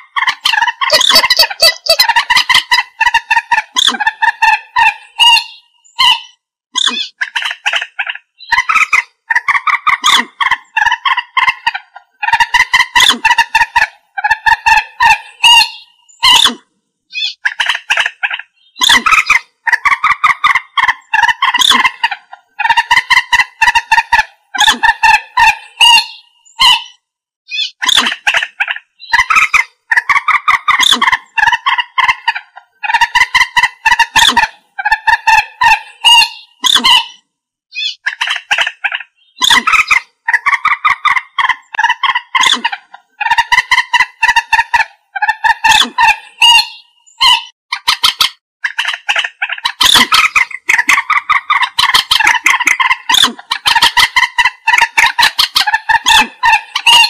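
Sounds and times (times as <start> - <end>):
moorhen clucking calls: 0.0 - 57.0.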